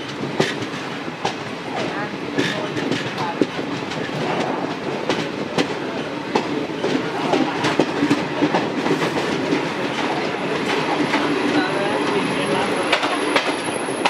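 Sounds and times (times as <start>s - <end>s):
train wheels clattering over rails: 0.0s - 14.0s.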